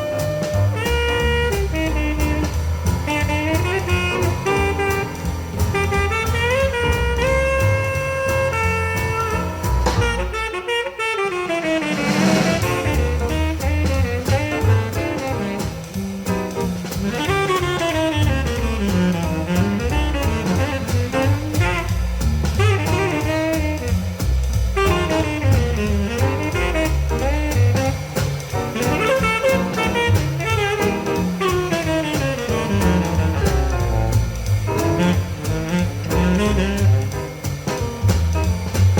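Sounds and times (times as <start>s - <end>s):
jazz with saxophone lead: 0.0s - 38.9s.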